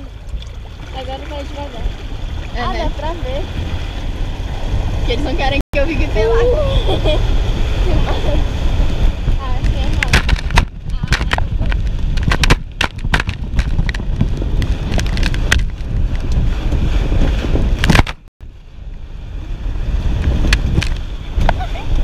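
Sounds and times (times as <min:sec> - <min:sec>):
water slapping and spraying: 0:00.0 - 0:22.0
wind buffeting microphone: 0:00.0 - 0:22.0.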